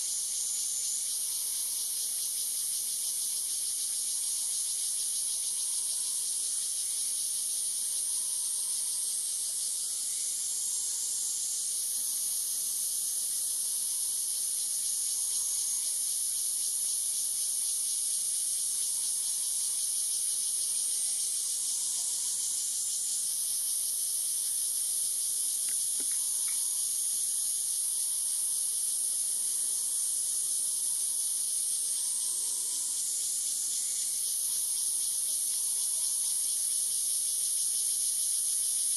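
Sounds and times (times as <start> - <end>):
insects chorus high-pitched hiss: 0.0 - 38.9.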